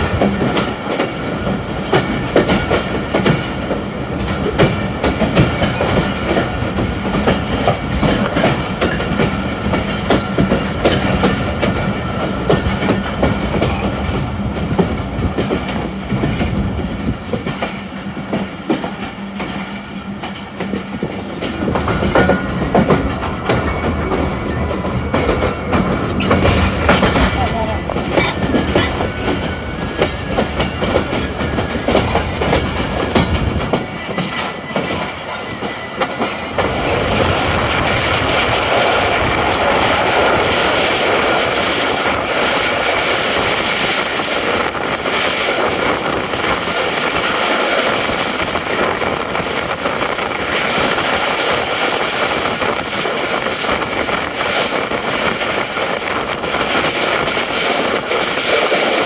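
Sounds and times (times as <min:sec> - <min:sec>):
train rushing rumble: 0:00.0 - 0:59.0
train wheels clicking over rail joints: 0:00.0 - 0:59.0.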